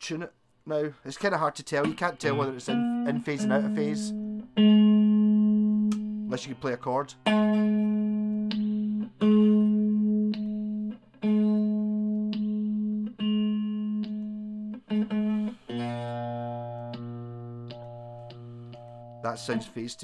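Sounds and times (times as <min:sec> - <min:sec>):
electric guitar strummed chords: 0:01.8 - 0:20.0.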